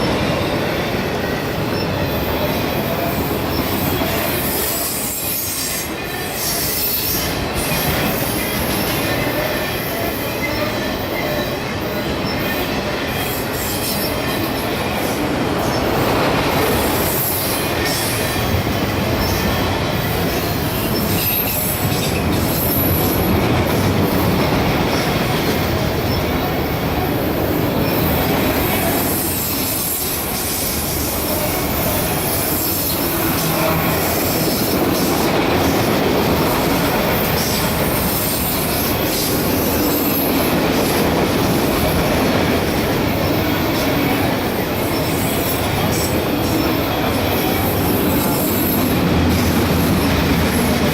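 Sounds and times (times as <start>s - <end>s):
freight train cars rolling: 0.0s - 50.9s
train wheel squeal: 0.0s - 50.9s.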